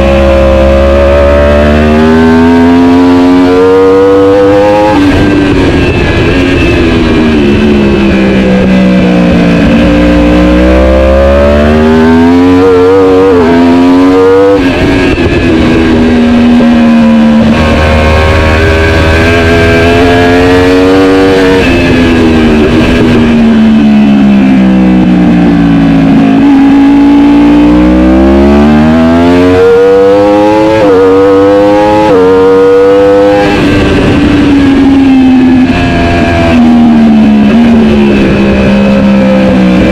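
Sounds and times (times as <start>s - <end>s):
racing motorbike engine shifting gears: 0.0s - 39.9s.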